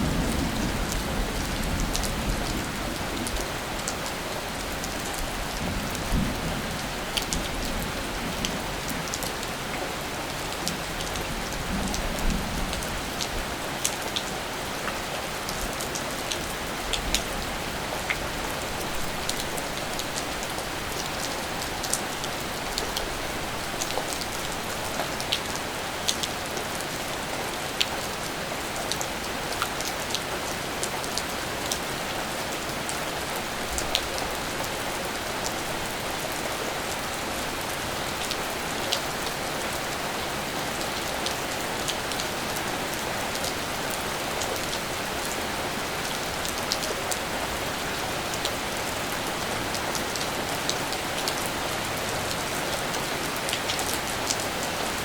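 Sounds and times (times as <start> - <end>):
raindrops ticking on surfaces: 0.0 - 55.0
steady rain hiss: 0.0 - 55.0.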